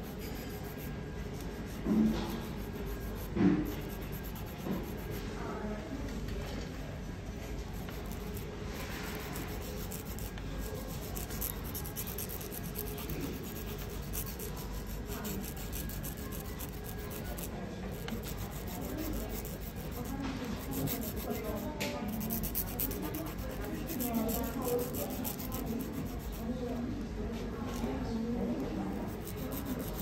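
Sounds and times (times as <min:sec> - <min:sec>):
nail file rasping on fingernails: 0:00.0 - 0:05.2, 0:07.7 - 0:26.5, 0:28.9 - 0:30.0.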